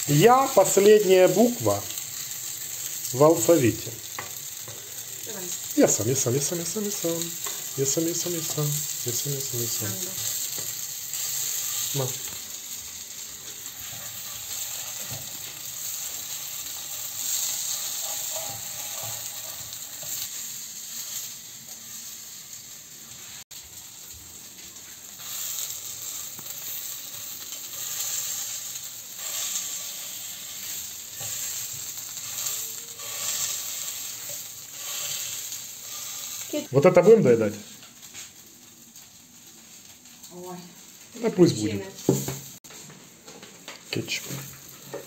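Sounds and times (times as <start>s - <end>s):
food sizzling in oil: 0.0s - 45.0s.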